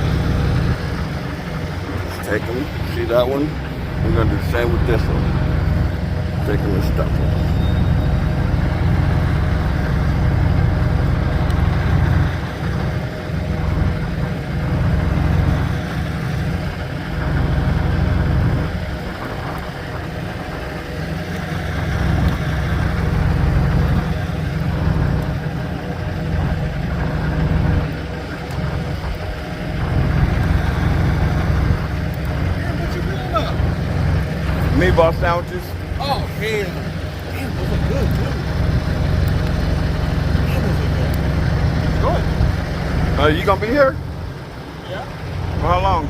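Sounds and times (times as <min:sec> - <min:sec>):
constant hum: 0:00.0 - 0:46.0
truck engine idling: 0:00.0 - 0:46.0.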